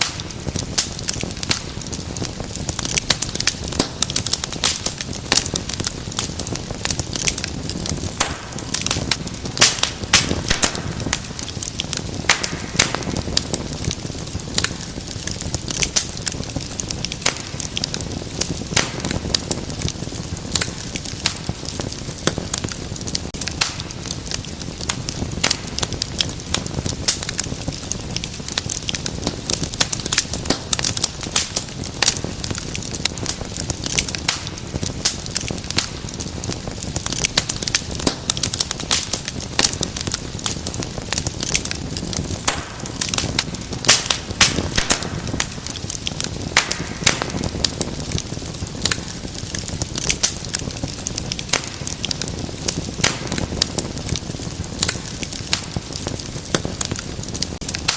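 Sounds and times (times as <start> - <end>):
fire crackling and popping: 0.0 - 57.9
low rush of flames: 0.0 - 57.9.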